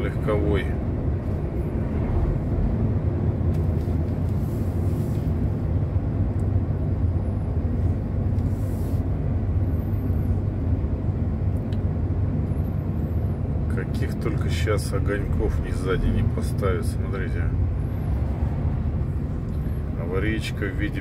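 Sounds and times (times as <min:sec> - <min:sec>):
truck engine and tyres droning: 0:00.0 - 0:21.0.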